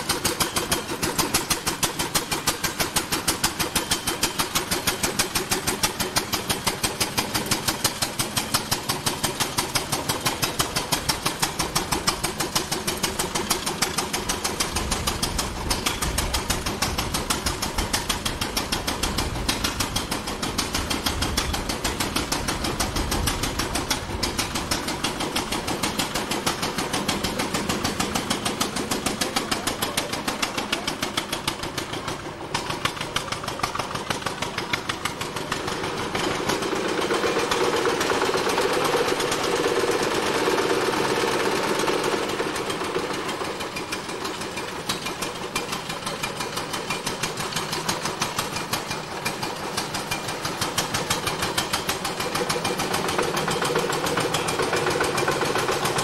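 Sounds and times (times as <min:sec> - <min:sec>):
old car engine chugging: 0:00.0 - 0:56.0.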